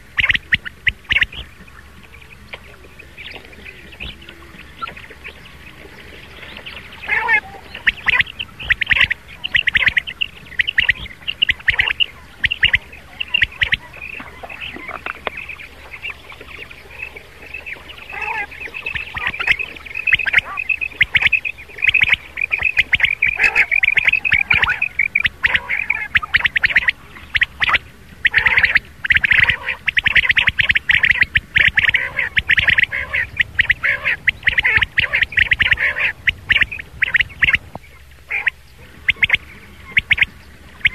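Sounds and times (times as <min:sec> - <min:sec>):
recorded quail calls: 0:00.0 - 0:40.9
steady low hum: 0:00.0 - 0:40.9.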